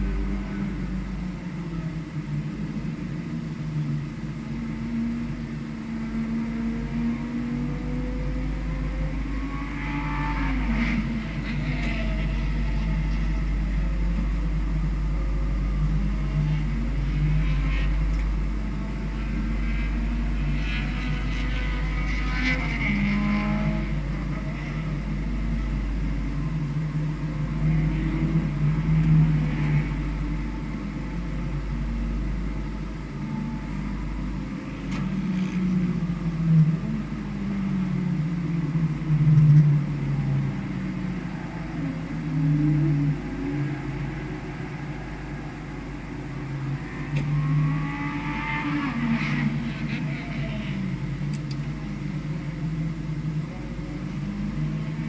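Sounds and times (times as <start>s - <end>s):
steady low rumble: 0.0s - 9.8s, 10.5s - 48.2s, 48.9s - 55.0s
race car engine accelerating: 0.0s - 55.0s.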